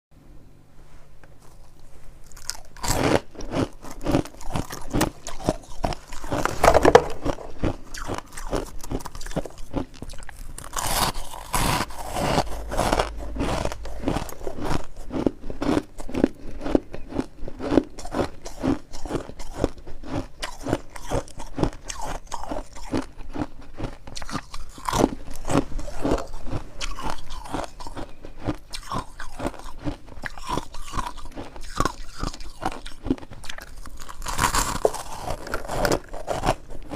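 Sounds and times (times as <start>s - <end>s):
frost being chewed: 1.2s - 36.9s.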